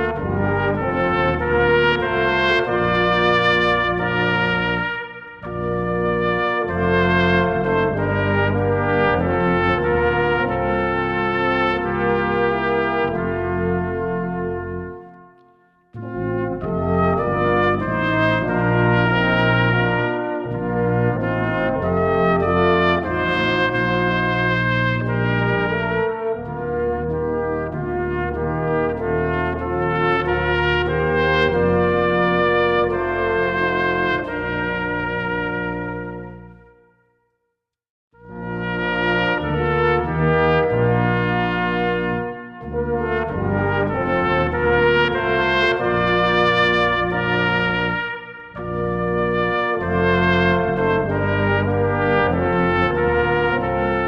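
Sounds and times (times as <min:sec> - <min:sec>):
brass ensemble playing a slow hymn: 0:00.0 - 0:36.9, 0:38.2 - 0:54.0.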